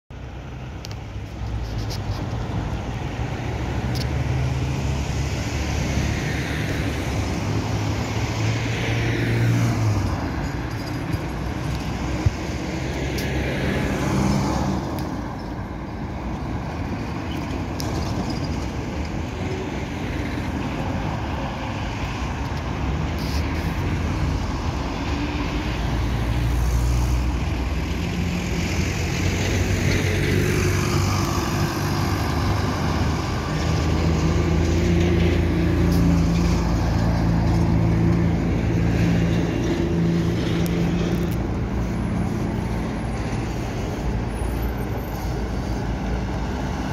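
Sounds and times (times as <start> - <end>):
cars passing: 0.2 - 46.9
trolleybus drawing up: 0.2 - 46.9.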